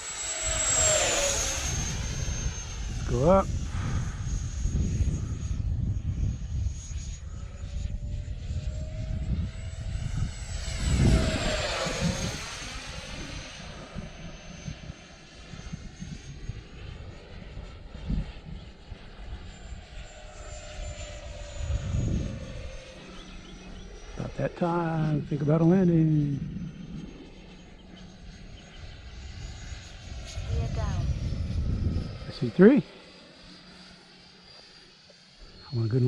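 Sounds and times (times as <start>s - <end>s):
ducted-fan jet whining past: 0.0s - 36.0s
wind rumble on microphone: 0.5s - 32.7s.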